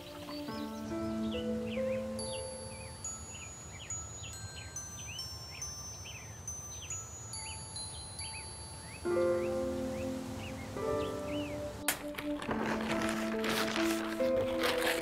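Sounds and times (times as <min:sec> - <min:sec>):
low instrumental music notes: 0:00.0 - 0:06.0, 0:06.7 - 0:15.0.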